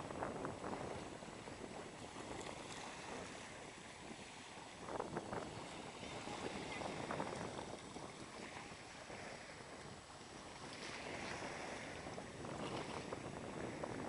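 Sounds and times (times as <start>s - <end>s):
waves washing onto sandy beach: 0.0s - 14.0s.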